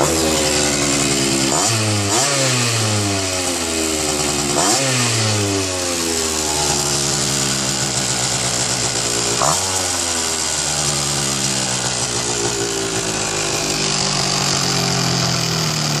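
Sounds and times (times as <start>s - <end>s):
two-stroke moped engine revving: 0.0s - 16.0s.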